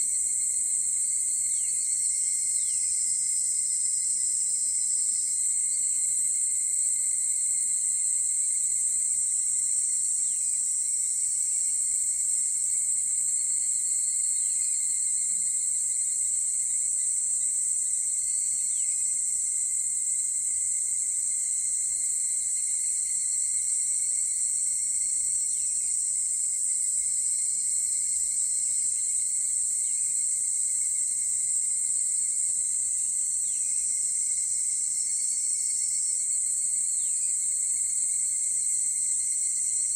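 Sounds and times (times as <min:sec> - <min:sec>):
cicadas chorus ringing: 0:00.0 - 0:39.9.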